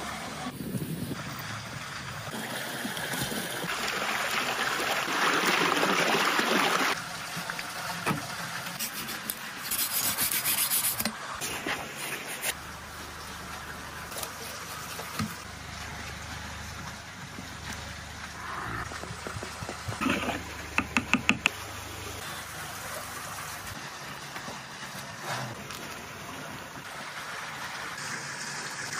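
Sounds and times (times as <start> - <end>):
water splashing: 1.7 - 28.9.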